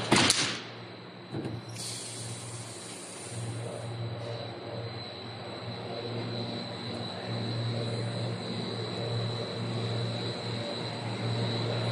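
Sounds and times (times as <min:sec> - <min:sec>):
machine low hum: 0:00.0 - 0:11.9
high machine whine: 0:00.7 - 0:11.9.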